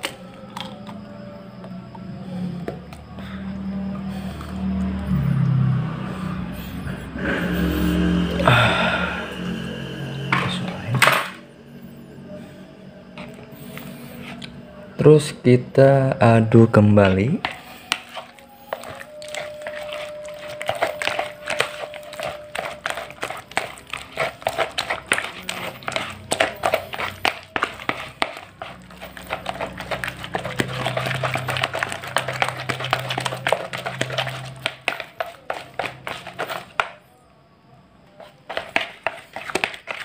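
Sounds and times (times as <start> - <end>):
dough squelching by hand: 0.0 - 11.0, 17.2 - 37.1, 38.1 - 40.0.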